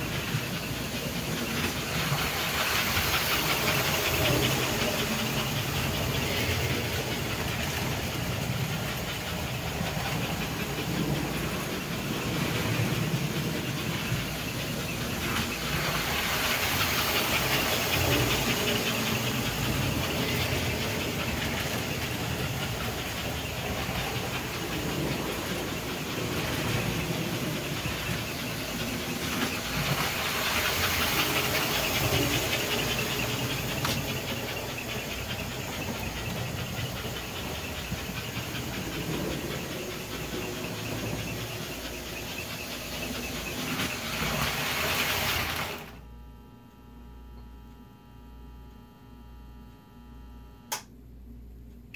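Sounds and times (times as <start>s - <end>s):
toy train hiss with rapid pulse: 0.0s - 46.0s
toy train motors and wheels rumbling: 0.0s - 46.3s.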